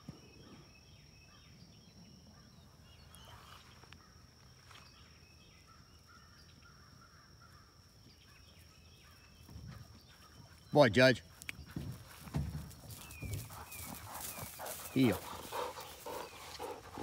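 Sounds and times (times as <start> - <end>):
distant bird calls: 0.0 - 17.0.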